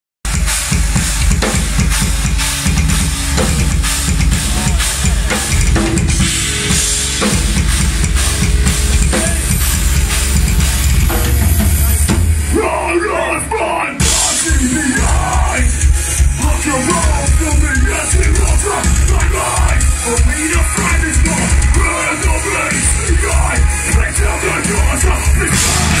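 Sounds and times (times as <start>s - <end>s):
heavy rock band playing: 0.2s - 26.0s
loud drum kit: 0.2s - 26.0s.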